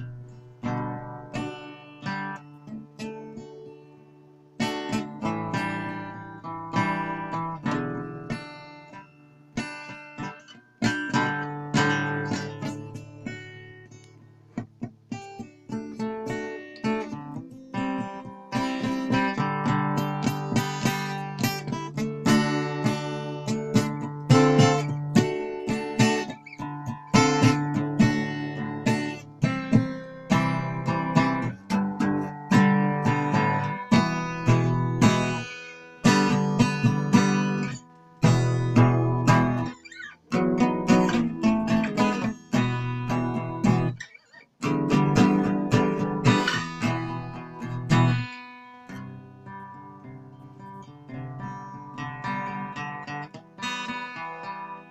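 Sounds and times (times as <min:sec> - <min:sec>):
acoustic guitar strumming and picking: 0:00.0 - 0:54.9.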